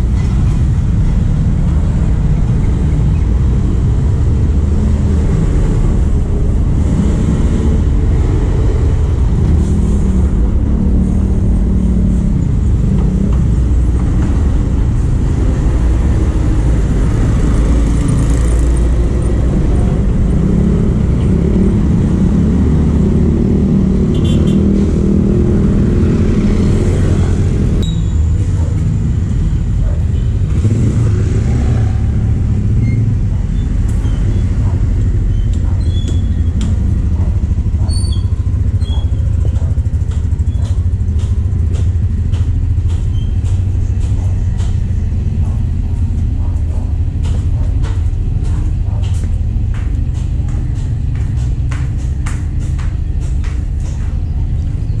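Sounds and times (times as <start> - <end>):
traffic driving past: 0.0 - 55.0.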